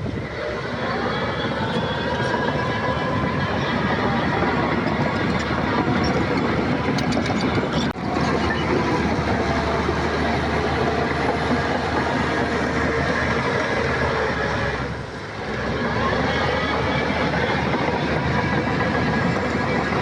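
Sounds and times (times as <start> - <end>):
earthmoving machinery diesel engine: 0.0 - 20.0.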